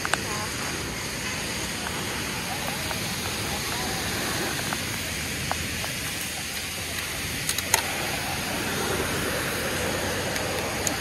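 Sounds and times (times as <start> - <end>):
flooded river rushing: 0.0 - 11.0
rain: 0.0 - 11.0
sharp ticks: 0.0 - 11.0.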